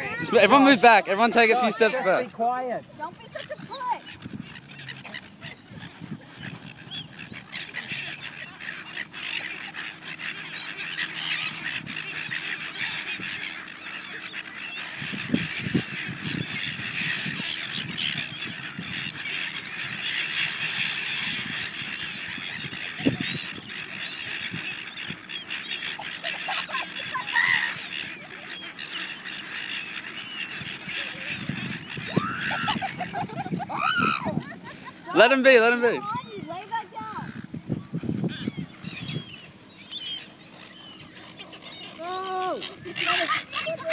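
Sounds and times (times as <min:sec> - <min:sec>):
gulls squawking: 0:00.0 - 0:43.9.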